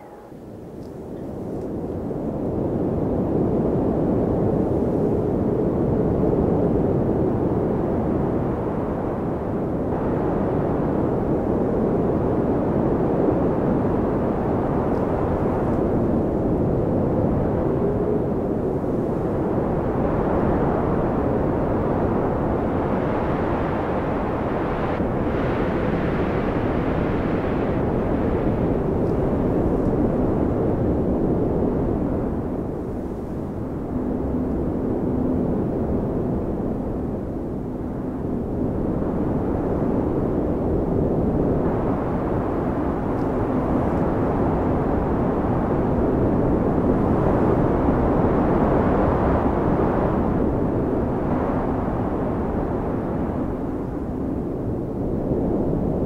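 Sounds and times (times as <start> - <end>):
low rumble of blizzard wind: 0.0 - 56.0.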